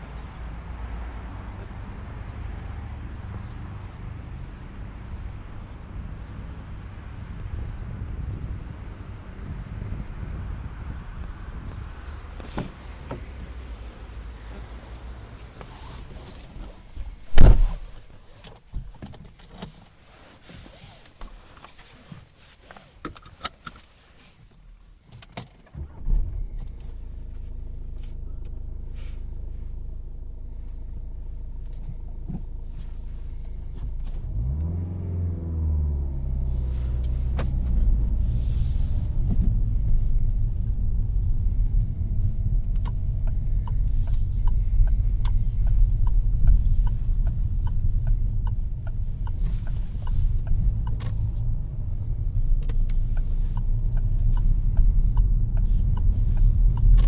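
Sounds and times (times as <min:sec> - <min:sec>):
diesel engine starting and idling: 0:00.0 - 0:18.2, 0:25.7 - 0:57.0
road noise: 0:00.0 - 0:24.8, 0:25.6 - 0:57.0.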